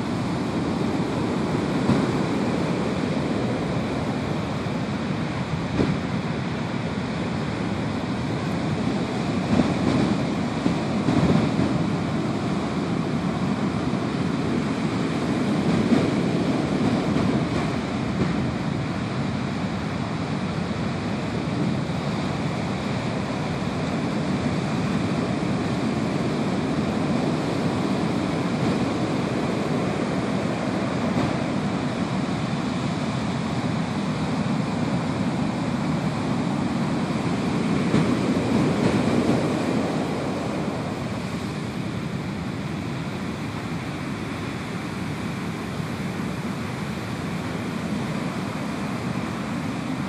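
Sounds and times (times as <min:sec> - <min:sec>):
ocean waves breaking on beach: 0:00.0 - 0:50.0.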